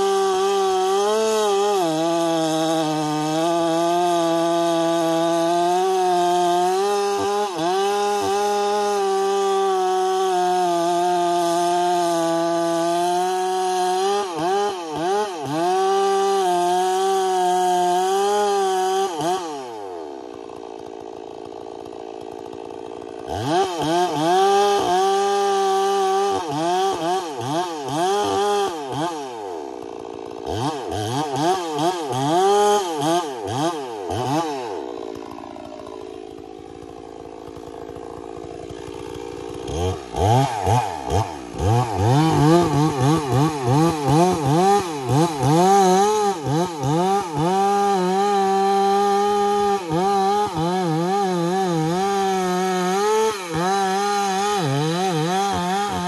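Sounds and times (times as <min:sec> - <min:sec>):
chainsaw cutting wood: 0:00.0 - 0:56.0
chainsaw idling: 0:00.0 - 0:56.0.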